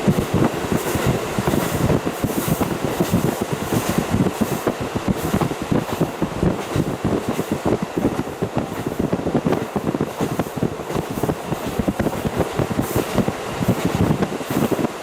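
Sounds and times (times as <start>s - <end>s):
diesel railcar engine: 0.0s - 15.0s
wheels rumbling on rail: 0.0s - 15.0s.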